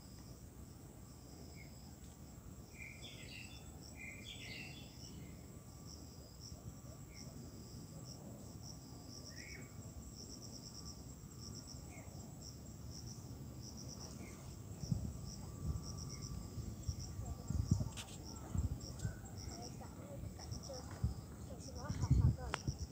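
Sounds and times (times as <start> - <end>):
insects chirping: 0.0 - 22.9.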